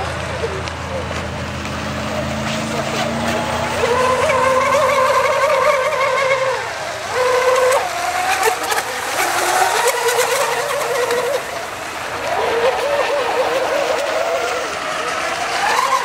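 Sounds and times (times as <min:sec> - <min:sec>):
racing boat engines buzzing: 0:00.0 - 0:16.0.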